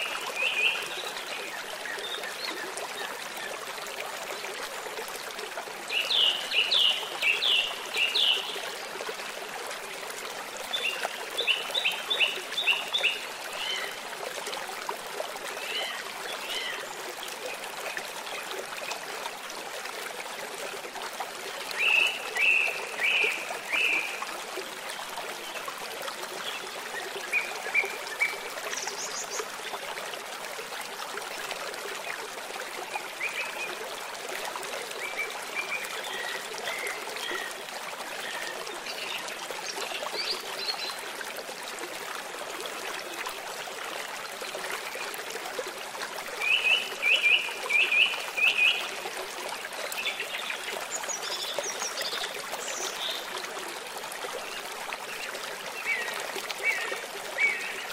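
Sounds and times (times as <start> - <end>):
water rushing: 0.0 - 57.9.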